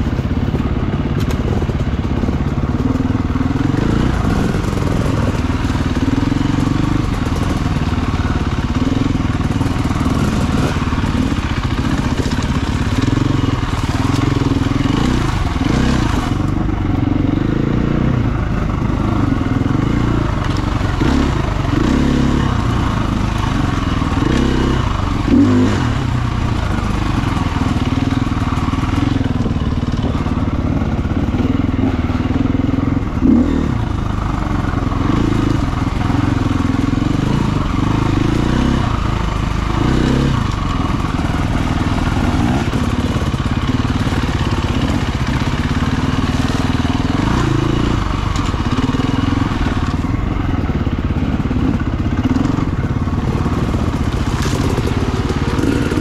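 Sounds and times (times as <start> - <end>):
dirt bike engine revving: 0.8 - 56.0.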